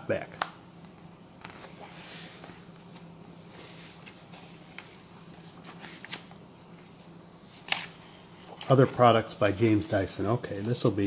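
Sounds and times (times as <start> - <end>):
steady low hum: 0.0 - 11.0
book pages turning: 1.4 - 11.0.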